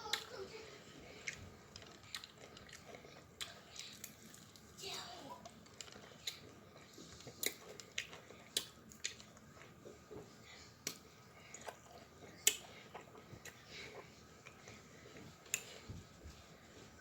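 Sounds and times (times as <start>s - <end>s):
chewing with wet mouth smacks: 1.1s - 4.8s, 5.4s - 15.9s.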